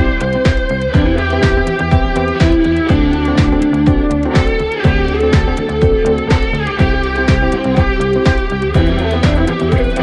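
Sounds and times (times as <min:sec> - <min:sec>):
low kick drum: 0:00.0 - 0:10.0
sustained pitched notes: 0:00.0 - 0:10.0.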